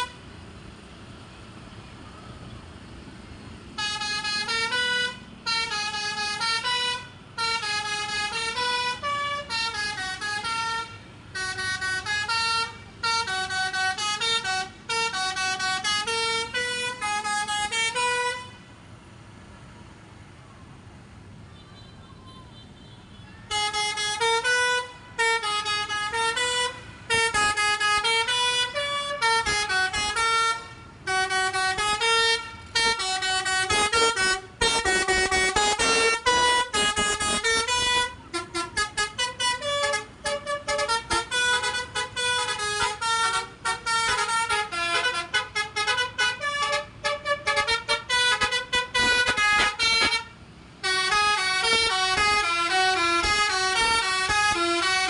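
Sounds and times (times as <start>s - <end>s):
bus musical air horn: 0.0s - 0.3s, 3.7s - 18.9s, 21.5s - 55.0s.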